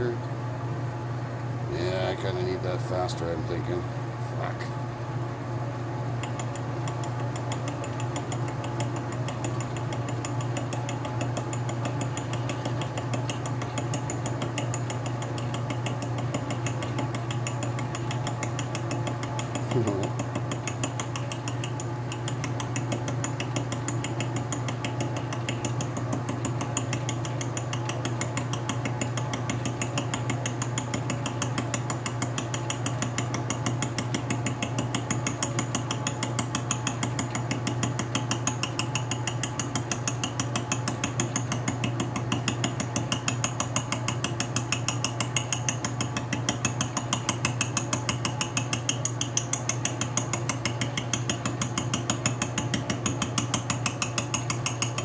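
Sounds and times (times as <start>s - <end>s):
gear cutter ticking on metal: 6.2s - 55.0s.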